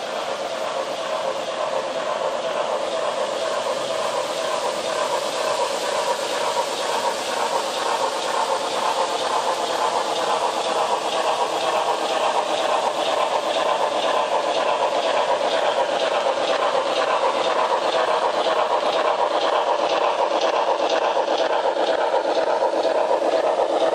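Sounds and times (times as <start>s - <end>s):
steam locomotive hiss from speaker: 0.0s - 23.9s.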